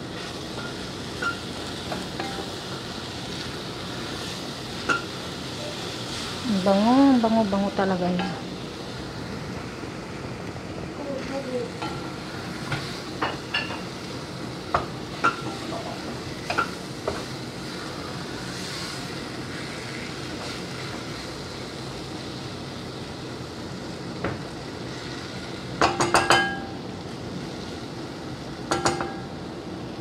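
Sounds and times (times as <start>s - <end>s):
meat sizzling in a pot: 0.0s - 30.0s.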